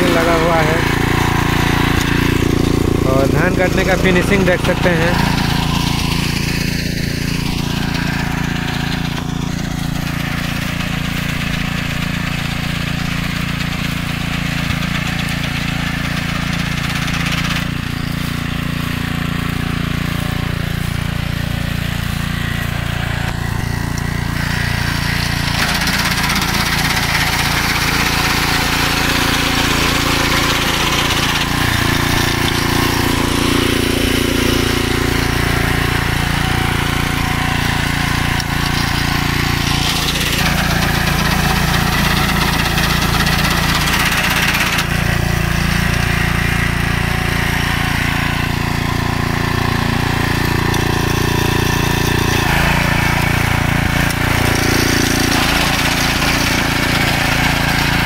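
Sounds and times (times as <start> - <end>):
small engine running under load: 0.0 - 58.0.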